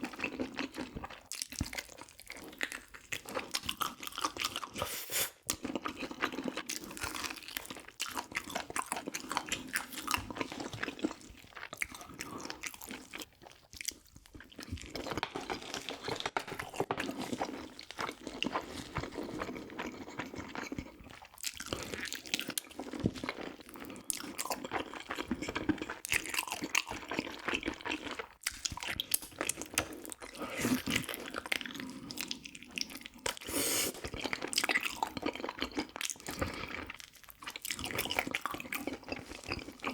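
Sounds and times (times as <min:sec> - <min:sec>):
wet chewing with crunchy bites: 0:00.0 - 0:39.9.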